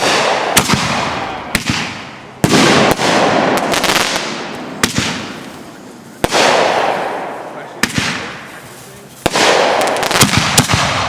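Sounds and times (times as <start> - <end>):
crackling hiss of fireworks: 0.0 - 11.0
fireworks bangs: 0.0 - 11.0.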